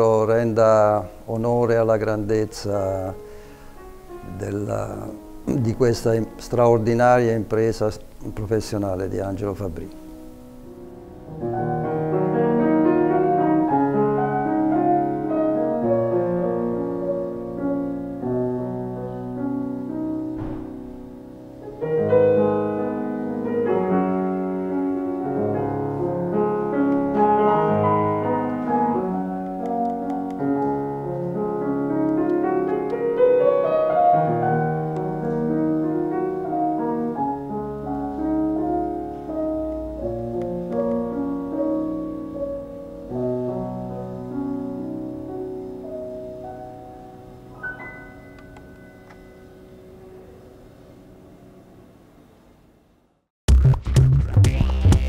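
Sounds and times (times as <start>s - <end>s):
classical grand piano playing: 0.0s - 52.1s.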